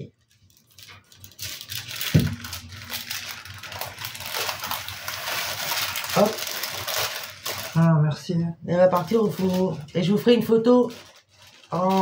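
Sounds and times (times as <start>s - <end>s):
baking parchment rustling: 0.0s - 7.9s, 8.8s - 12.0s.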